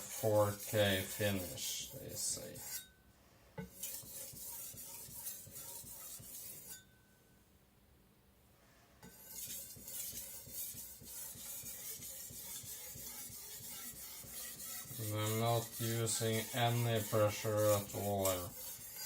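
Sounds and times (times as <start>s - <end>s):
cleaver stroked on whetstone: 0.0s - 2.9s, 3.6s - 6.8s, 9.0s - 19.0s.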